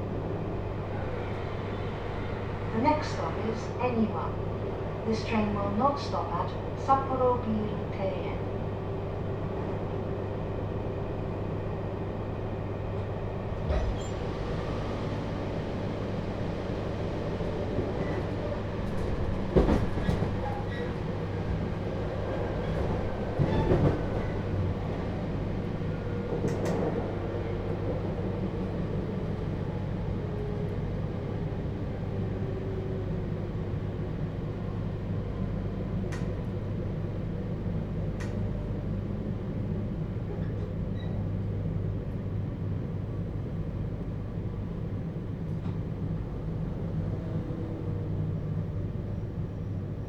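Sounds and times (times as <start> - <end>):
train interior running rumble: 0.0 - 50.0.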